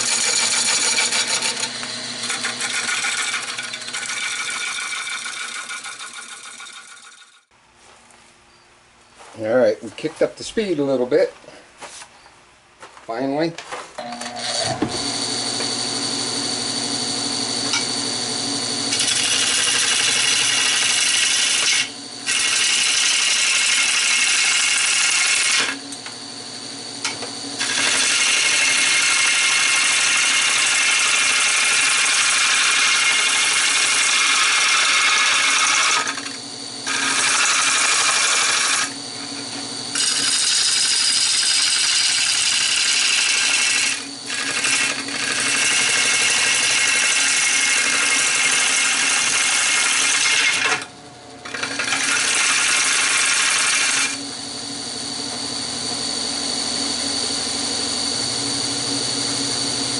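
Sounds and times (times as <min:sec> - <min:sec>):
turning tool cutting wood: 0:00.0 - 0:07.5, 0:14.0 - 0:59.9
wood lathe running: 0:00.0 - 0:07.5, 0:14.0 - 0:59.9.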